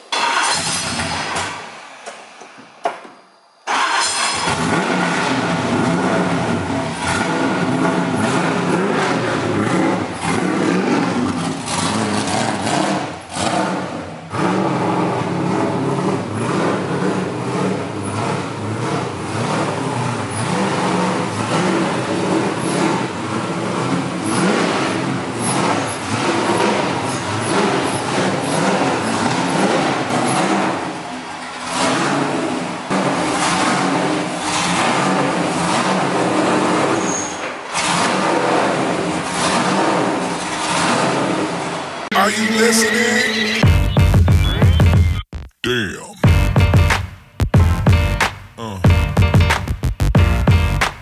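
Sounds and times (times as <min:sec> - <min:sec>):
car engine starting and running: 0:00.0 - 0:03.1, 0:03.7 - 0:51.0.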